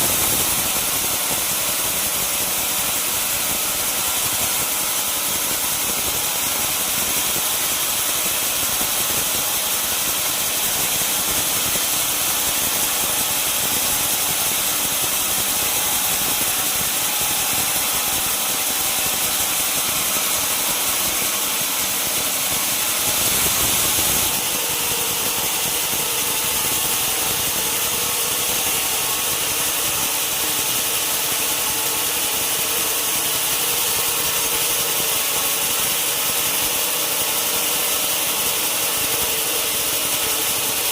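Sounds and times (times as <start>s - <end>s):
sawmill machinery hissing and humming: 0.0s - 40.9s.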